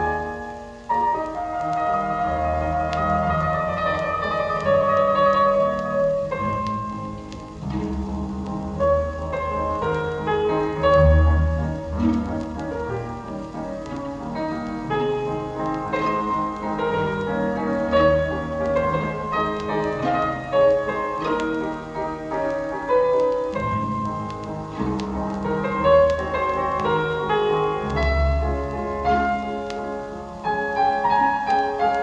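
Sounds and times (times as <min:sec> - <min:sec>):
piano music with low bass notes: 0:00.0 - 0:32.0.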